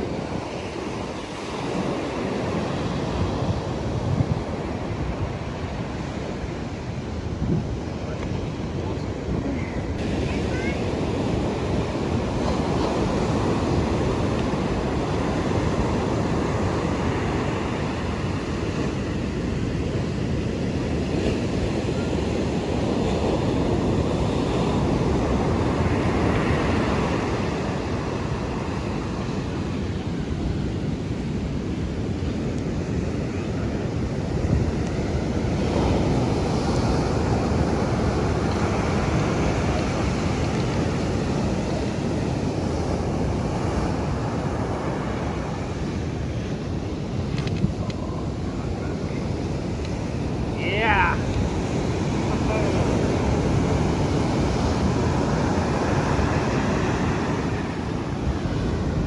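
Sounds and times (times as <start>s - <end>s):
ocean surf on beach: 0.0s - 59.0s
wind buffeting microphone: 0.0s - 59.0s.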